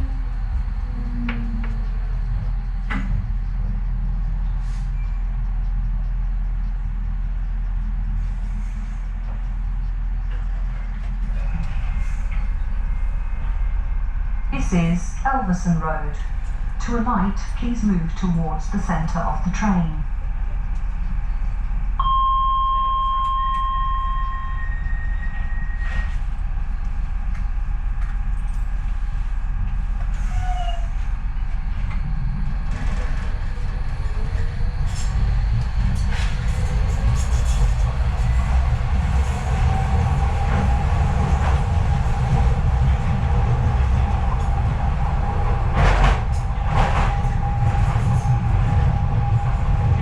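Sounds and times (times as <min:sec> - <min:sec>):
train wheels rumbling on track: 0:00.0 - 0:22.0, 0:23.3 - 0:50.0.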